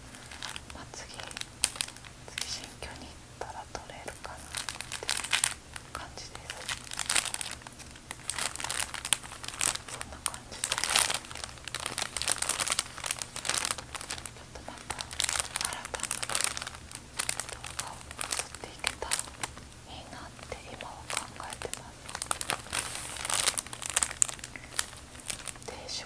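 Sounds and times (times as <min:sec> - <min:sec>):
bag crinkling: 0:00.0 - 0:03.1, 0:03.8 - 0:26.0.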